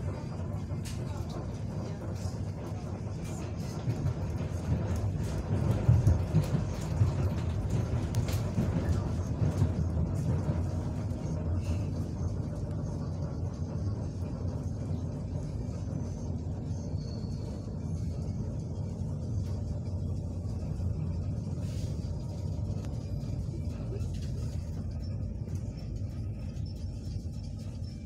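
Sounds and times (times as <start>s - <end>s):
train interior rumble: 0.0s - 28.0s.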